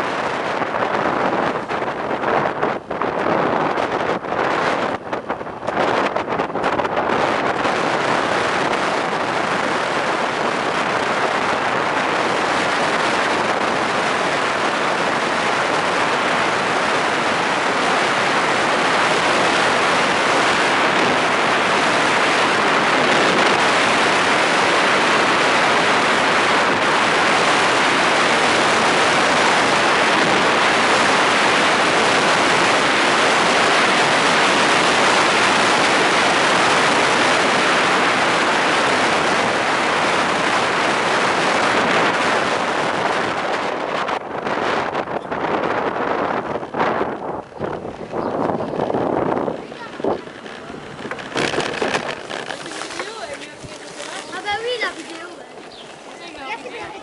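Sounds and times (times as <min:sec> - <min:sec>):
tyres rolling on asphalt: 0:00.0 - 0:57.0
wind on microphone: 0:00.0 - 0:57.0.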